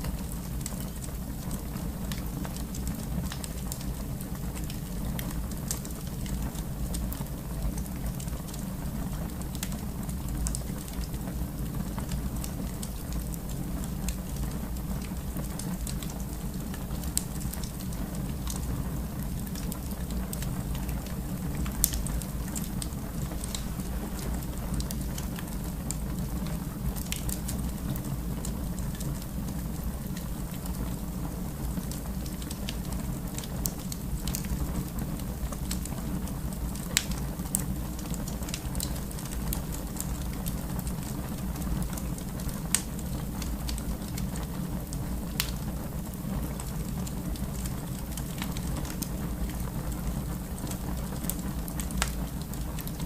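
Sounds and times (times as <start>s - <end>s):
fire crackling and popping: 0.0s - 53.0s
wood fire rumbling: 0.0s - 53.0s.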